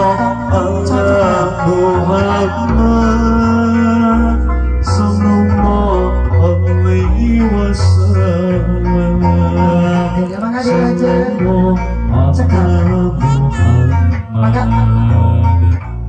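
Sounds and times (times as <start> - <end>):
song with singing and plucked strings: 0.0 - 16.0.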